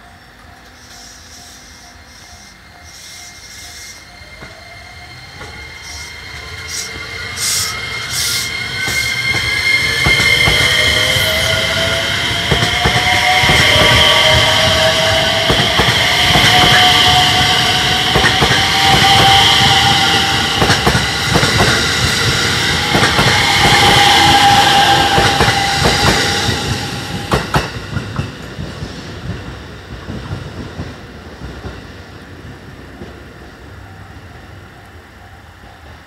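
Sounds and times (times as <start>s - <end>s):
electric train motors whining: 0.0s - 29.3s
train wheels clicking on rail joints: 0.0s - 33.4s.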